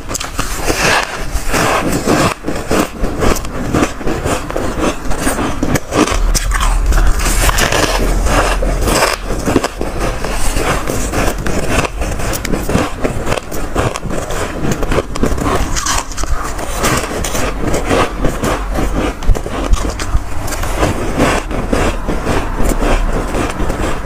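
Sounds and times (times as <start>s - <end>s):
frost crunching while chewed: 0.0s - 24.0s.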